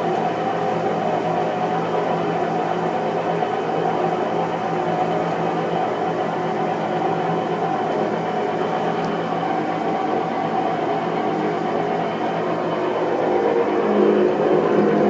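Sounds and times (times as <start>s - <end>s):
washing machine spin cycle rumble: 0.0s - 15.0s.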